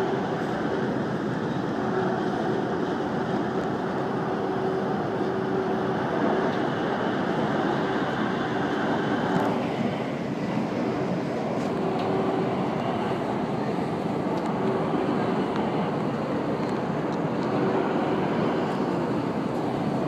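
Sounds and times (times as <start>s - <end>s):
subway train rumbling in tunnel: 0.0s - 20.0s.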